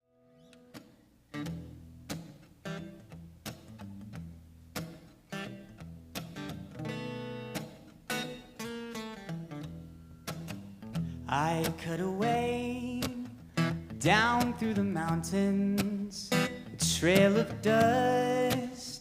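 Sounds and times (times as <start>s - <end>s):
acoustic guitar picking: 0.2s - 19.0s.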